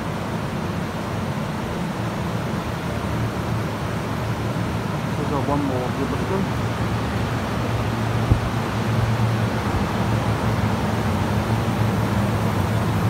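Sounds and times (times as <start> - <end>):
fans whooshing air: 0.0 - 13.0.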